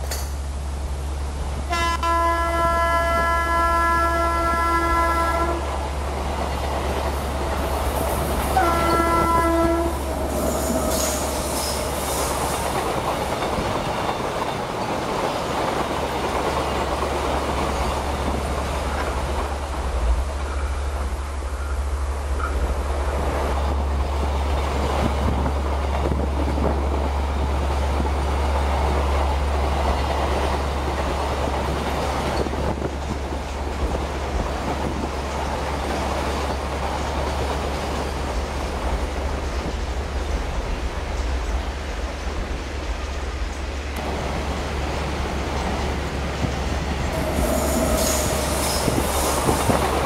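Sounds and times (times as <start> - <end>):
high-speed train rushing: 0.0 - 50.0.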